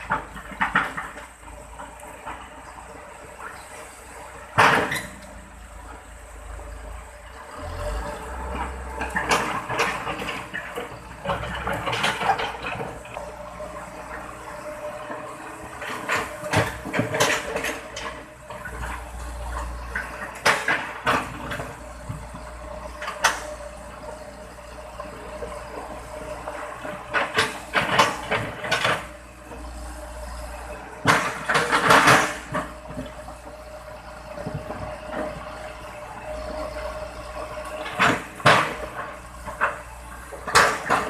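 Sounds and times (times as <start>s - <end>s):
excavator engine humming: 0.0s - 41.0s.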